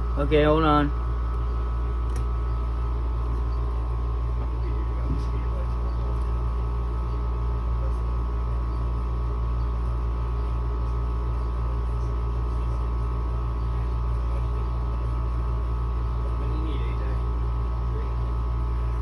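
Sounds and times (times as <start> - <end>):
window air conditioner running: 0.0 - 19.0.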